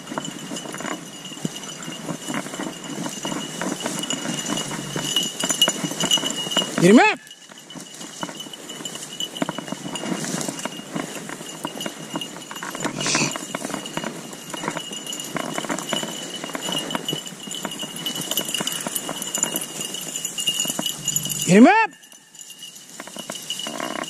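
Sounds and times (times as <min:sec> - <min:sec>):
rustling in dry brush: 0:00.0 - 0:21.6.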